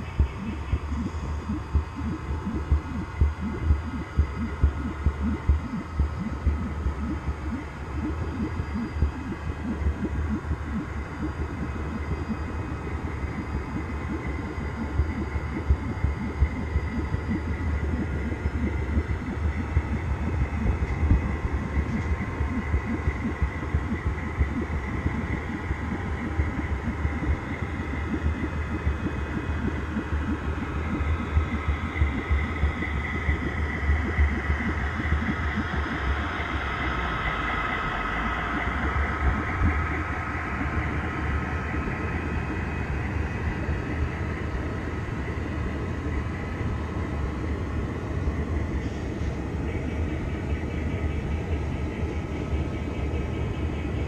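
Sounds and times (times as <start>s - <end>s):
high whine: 0.0s - 54.0s
low motor hum: 0.0s - 54.0s.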